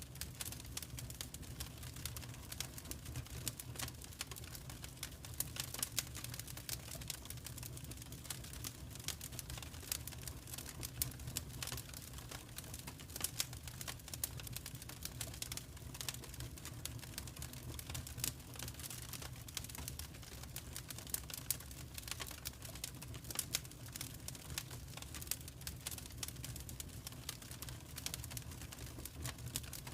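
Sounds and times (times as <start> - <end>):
fireplace fire crackling and popping: 0.0 - 29.9
low rumble of flames: 0.1 - 29.9.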